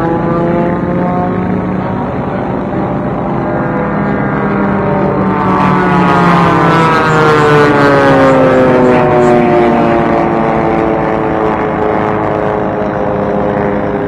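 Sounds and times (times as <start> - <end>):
racing plane engines droning: 0.0 - 14.0.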